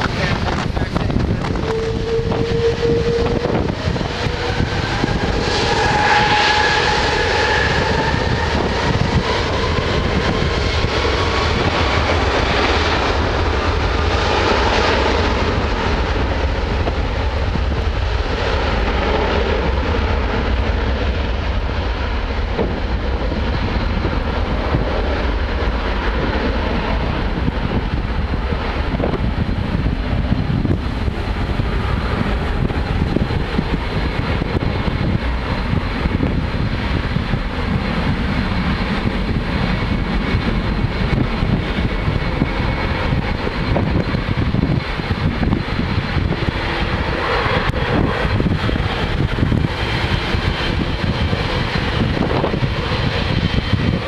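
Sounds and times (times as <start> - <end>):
jet engines at high power: 0.0 - 54.0
wind rumble on microphone: 0.0 - 54.0.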